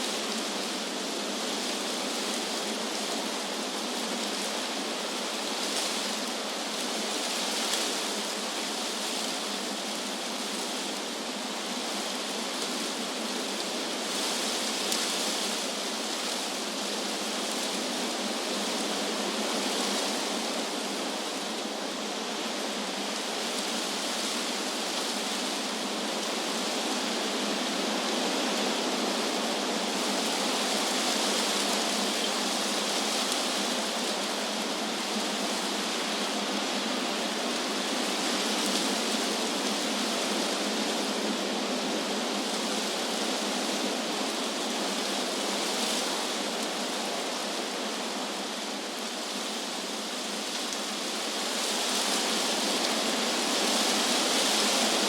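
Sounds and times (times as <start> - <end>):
wind rushing through leaves: 0.0 - 55.0.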